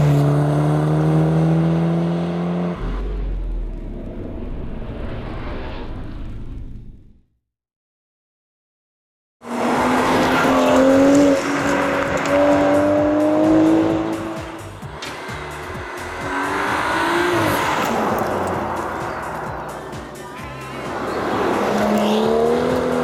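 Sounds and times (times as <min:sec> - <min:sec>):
car engine accelerating: 0:00.0 - 0:07.2, 0:09.4 - 0:23.0.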